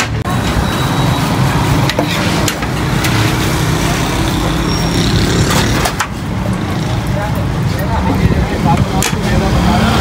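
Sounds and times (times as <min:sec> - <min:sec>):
road traffic: 0:00.0 - 0:10.0.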